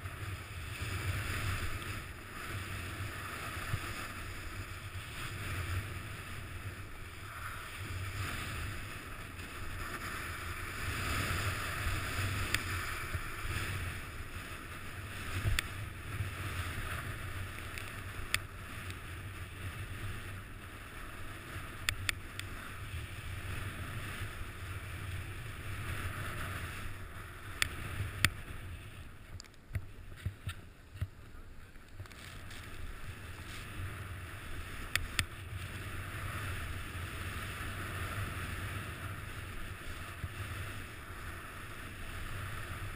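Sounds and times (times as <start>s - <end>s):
sliding on snow: 0.0s - 42.9s
wind rumble on microphone: 0.0s - 42.9s.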